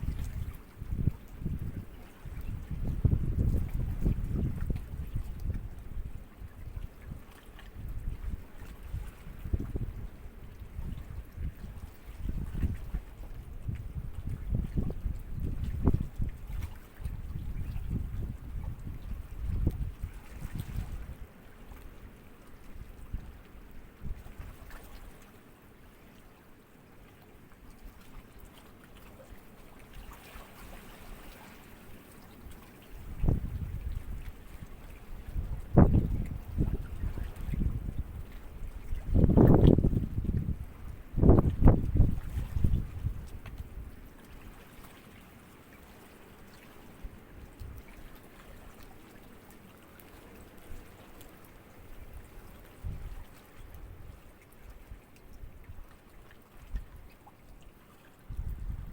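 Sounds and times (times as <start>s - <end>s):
sea ripples lapping: 0.0s - 58.9s
small water drips: 0.0s - 58.9s.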